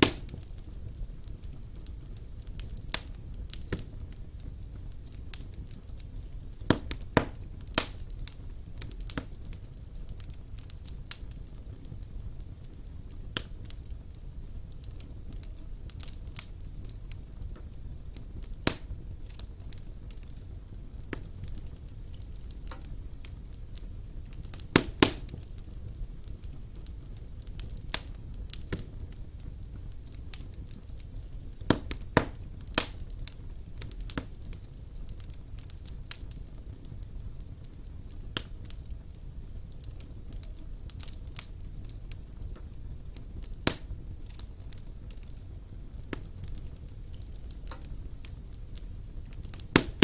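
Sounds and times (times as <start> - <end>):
fire flames rumbling: 0.0 - 50.0
logs crackling and popping: 0.0 - 50.0.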